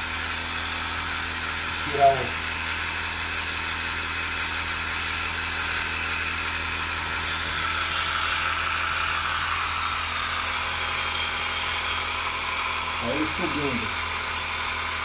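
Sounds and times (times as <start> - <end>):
air compressor motor buzzing: 0.0 - 15.0.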